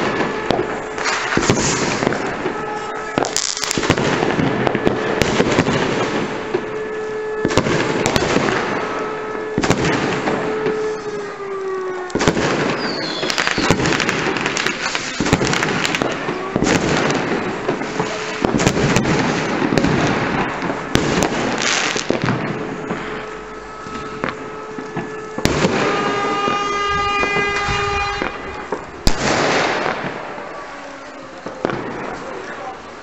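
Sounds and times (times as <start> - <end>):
alarm siren wailing: 0.0 - 29.1
fireworks cracking and banging: 0.0 - 33.0.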